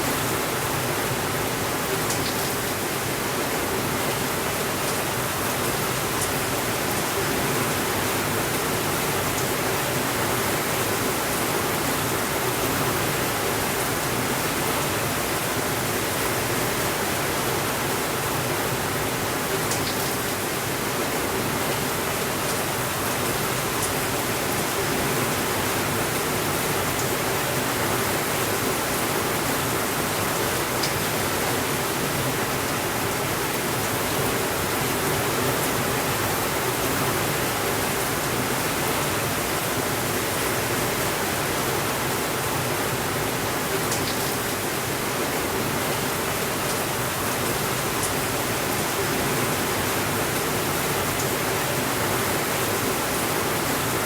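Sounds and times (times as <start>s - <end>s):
steady rainfall hiss: 0.0s - 54.0s.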